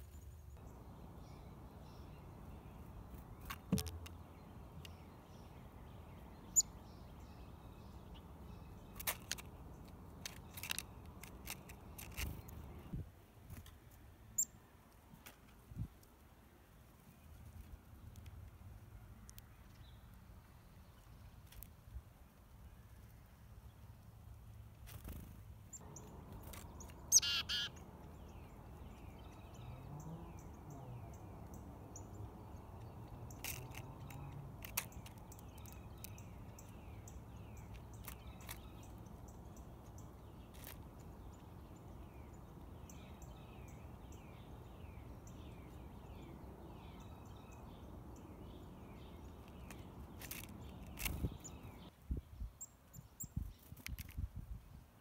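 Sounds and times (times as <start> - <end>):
small birds chirping: 0.0 - 54.7.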